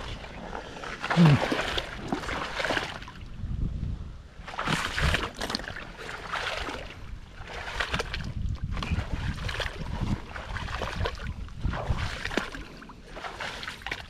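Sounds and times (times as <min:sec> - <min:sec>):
water sloshing and splashing: 0:00.0 - 0:03.5, 0:04.4 - 0:14.0
wind rumbling on microphone: 0:00.0 - 0:14.0.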